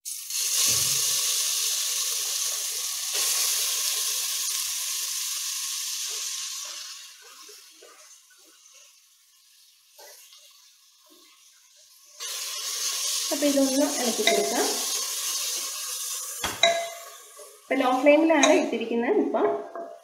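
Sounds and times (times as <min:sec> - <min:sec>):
carrot sizzling in hot ghee: 0:00.0 - 0:20.0.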